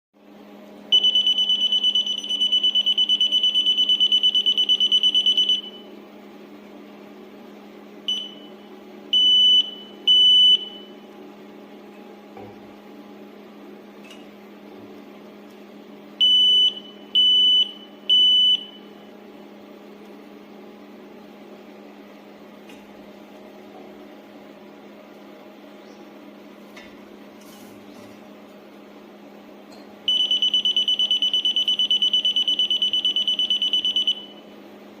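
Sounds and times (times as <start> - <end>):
steady low hum: 0.2 - 35.0.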